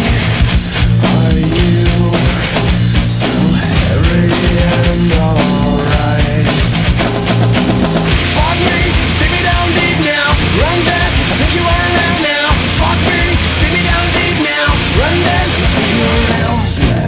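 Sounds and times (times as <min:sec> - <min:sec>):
driving drum kit: 0:00.0 - 0:17.0
heavy distorted guitars: 0:00.0 - 0:17.0.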